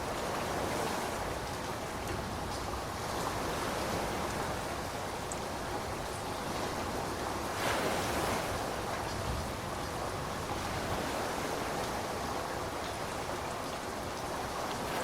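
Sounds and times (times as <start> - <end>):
heavy rainfall: 0.0 - 15.0.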